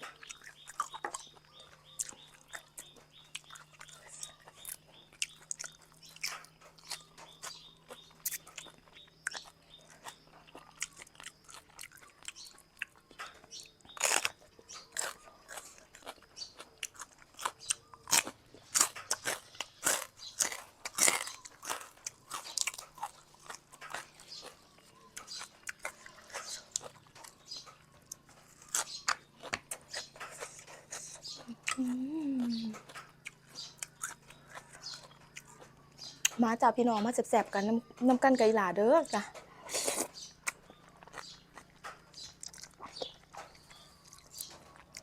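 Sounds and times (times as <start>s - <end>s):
chewing and crunching noodles: 0.0s - 45.0s.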